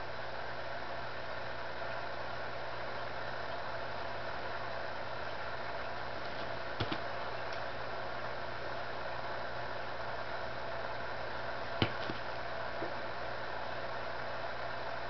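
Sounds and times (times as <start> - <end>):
mechanical hum with tones: 0.0 - 15.0.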